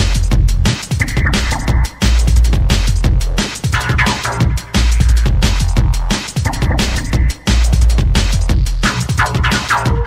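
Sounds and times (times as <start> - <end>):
drum and bass music: 0.0 - 10.0.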